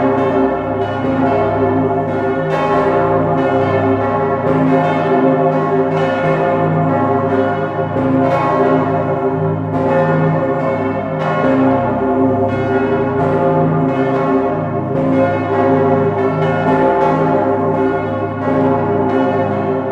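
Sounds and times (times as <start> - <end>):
large church bells ringing: 0.0 - 19.9.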